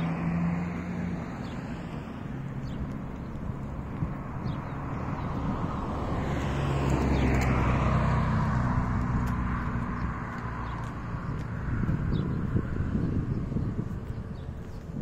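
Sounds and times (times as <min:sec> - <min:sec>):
car driving past: 0:00.0 - 0:14.4.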